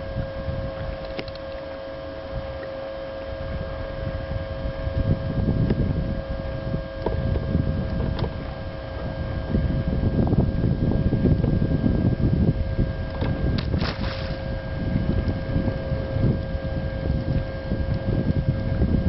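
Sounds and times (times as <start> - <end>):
wind buffeting microphone: 0.0 - 1.3, 2.2 - 19.0
steady high electric hum: 0.0 - 19.0.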